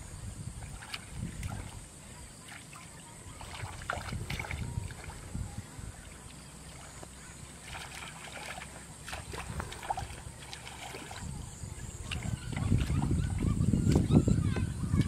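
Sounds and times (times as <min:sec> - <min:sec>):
muddy water sloshing and splashing: 0:00.0 - 0:15.0.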